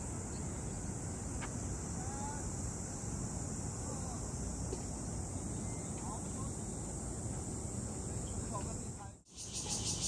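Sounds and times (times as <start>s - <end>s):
cicadas chorus: 0.0s - 10.0s.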